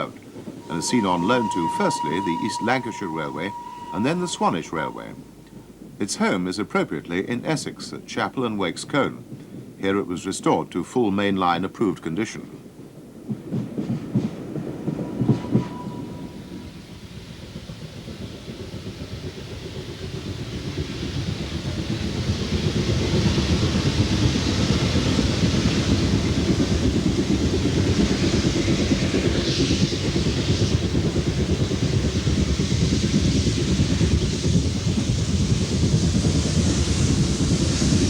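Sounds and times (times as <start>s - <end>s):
steam hiss: 0.0s - 8.7s, 14.4s - 38.0s
steam locomotive running: 0.0s - 38.0s.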